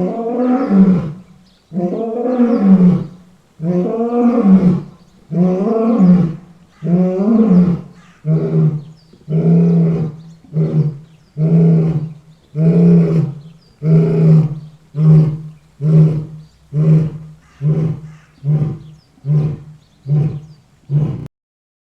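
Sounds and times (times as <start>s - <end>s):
lion roaring: 0.0s - 21.3s.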